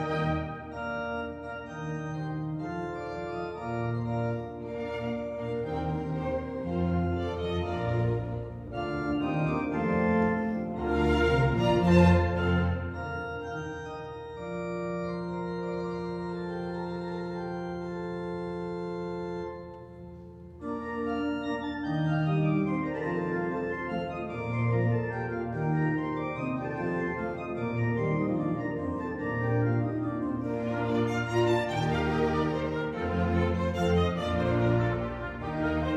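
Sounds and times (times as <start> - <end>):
organ music: 0.0 - 35.9.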